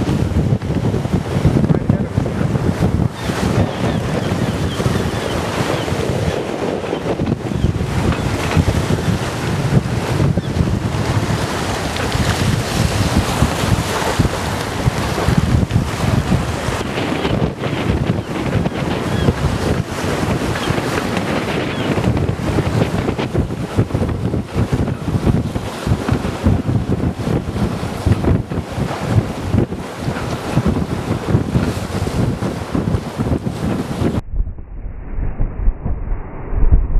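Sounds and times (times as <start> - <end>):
water rushing along hull: 0.0 - 34.2
wind buffeting microphone: 0.0 - 36.9.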